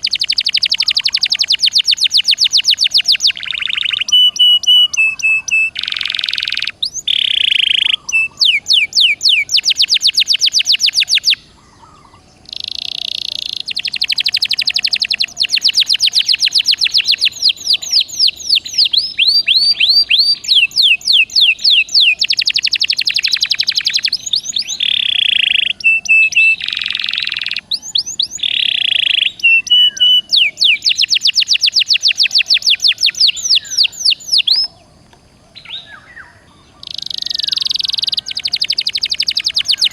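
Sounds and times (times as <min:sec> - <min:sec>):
canary singing: 0:00.0 - 0:34.9, 0:35.5 - 0:39.9.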